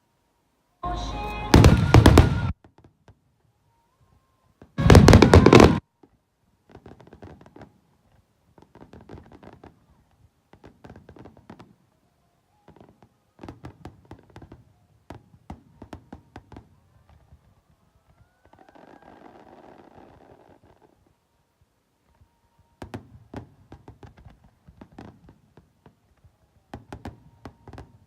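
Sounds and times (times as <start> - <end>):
fireworks crackling and popping: 1.4 - 3.3, 4.6 - 28.0.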